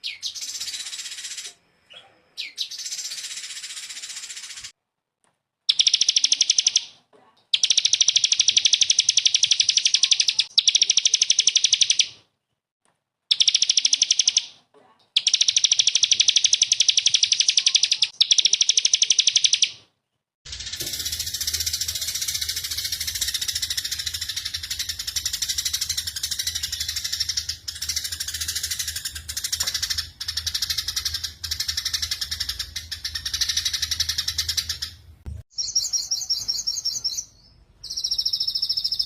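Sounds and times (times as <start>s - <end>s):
buzzy bird phrases: 5.7s - 12.2s, 13.3s - 19.9s, 20.5s - 39.0s.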